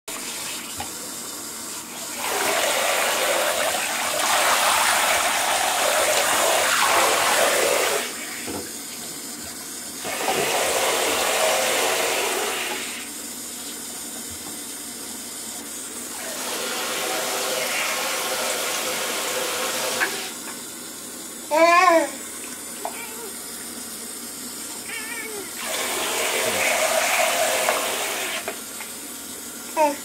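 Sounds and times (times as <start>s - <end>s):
shower water running into bathtub: 0.1s - 30.0s.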